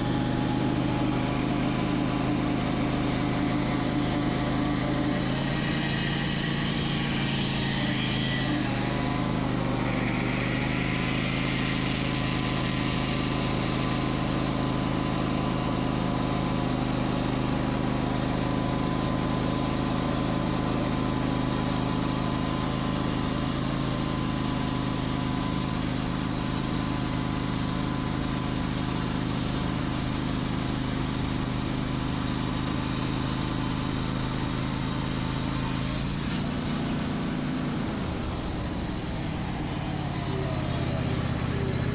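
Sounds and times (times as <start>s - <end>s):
sawmill engine humming: 0.0s - 41.9s.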